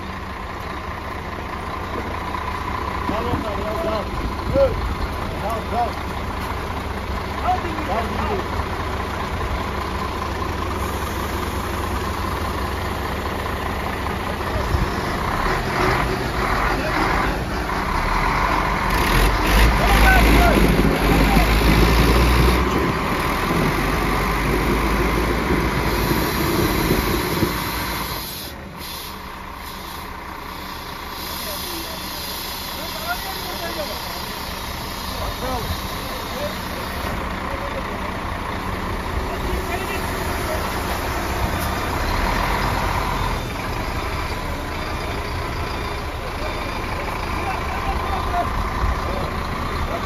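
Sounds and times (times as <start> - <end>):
truck diesel engine: 0.0 - 50.0.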